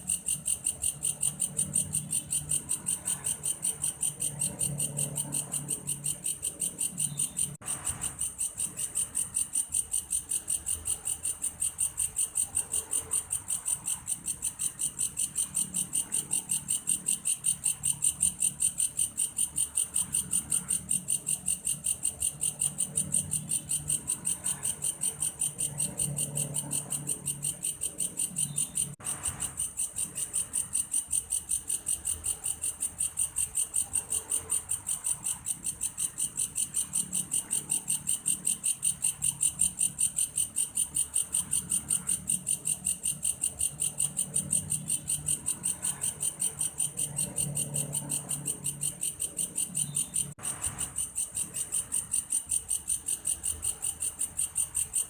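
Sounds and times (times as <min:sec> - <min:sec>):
grasshopper chirping: 0:00.0 - 0:55.0.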